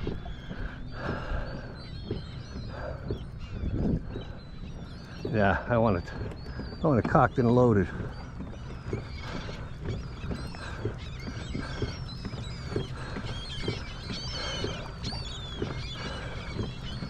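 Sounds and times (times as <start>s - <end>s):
seabirds calling: 0.0s - 17.0s.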